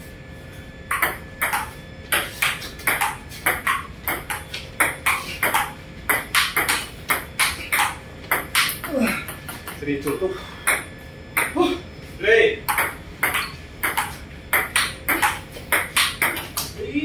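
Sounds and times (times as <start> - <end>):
ping-pong ball hitting paddles: 0.9 - 11.6, 12.6 - 16.8.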